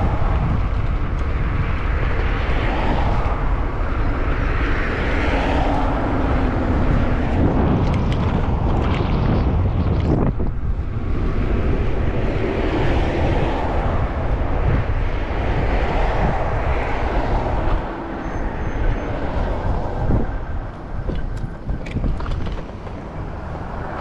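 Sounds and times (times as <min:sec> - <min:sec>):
road traffic: 0:00.0 - 0:24.0
wind buffeting microphone: 0:00.0 - 0:24.0.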